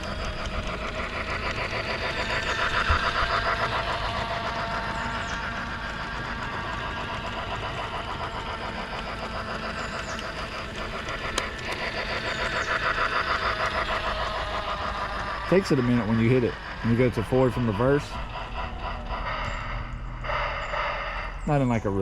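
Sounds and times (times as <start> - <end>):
model train rattling on track: 0.0 - 22.0.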